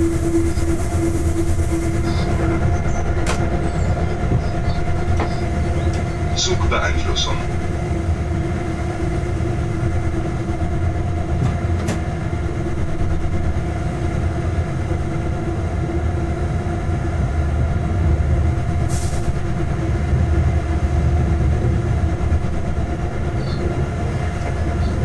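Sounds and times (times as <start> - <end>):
constant hum: 0.0 - 25.0
freight train rumbling on track: 0.0 - 25.0.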